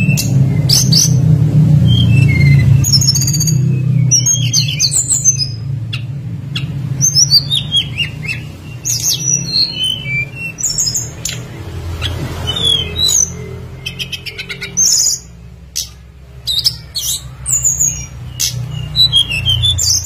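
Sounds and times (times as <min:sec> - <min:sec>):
bird singing high chirps and whistles: 0:00.0 - 0:20.0.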